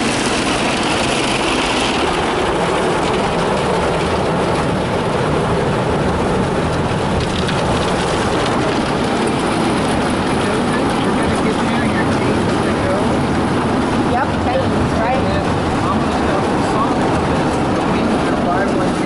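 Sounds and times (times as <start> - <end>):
car wash brushes and water: 0.0 - 19.0.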